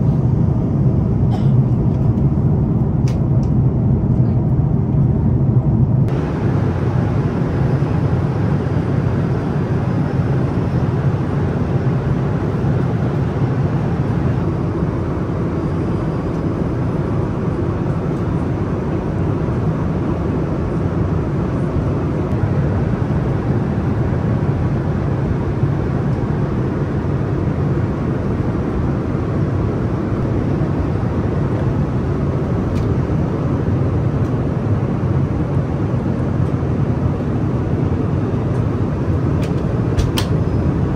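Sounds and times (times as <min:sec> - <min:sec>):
airplane cabin airflow and engine drone: 0:00.0 - 0:40.9.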